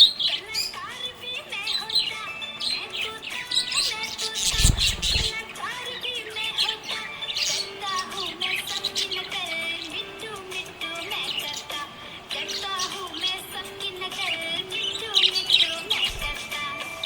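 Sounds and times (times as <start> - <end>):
budgerigar chirping and warbling: 0.0 - 17.0.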